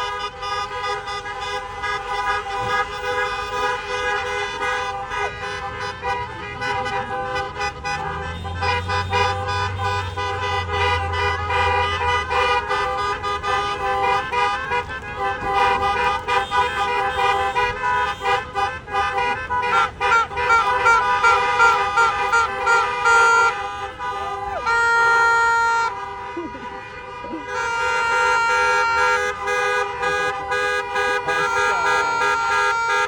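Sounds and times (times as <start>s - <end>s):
bus musical horn playing a tune: 0.0s - 33.0s
diesel engine rumbling: 0.0s - 33.0s.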